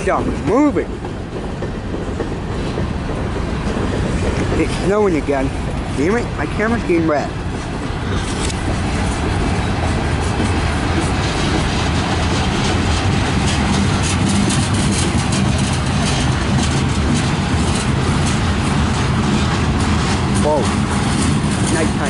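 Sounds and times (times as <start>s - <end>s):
freight car wheels rumbling on rails: 0.0s - 22.0s.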